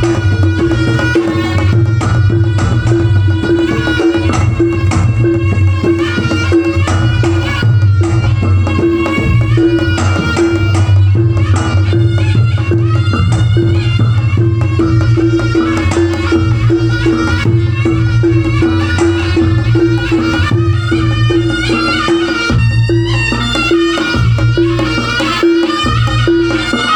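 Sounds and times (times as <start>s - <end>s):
gamelan ensemble playing: 0.0s - 26.9s
hand drums: 0.0s - 26.9s.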